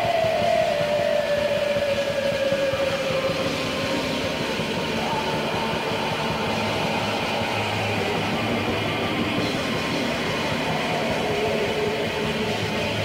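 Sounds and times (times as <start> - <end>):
distorted black metal noise: 0.0 - 13.0.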